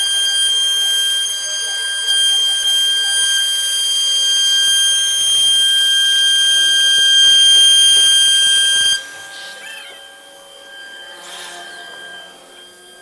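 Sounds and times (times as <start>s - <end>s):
cnc router whine: 0.0s - 13.0s
faint whine with pitch sweeps: 0.0s - 13.0s.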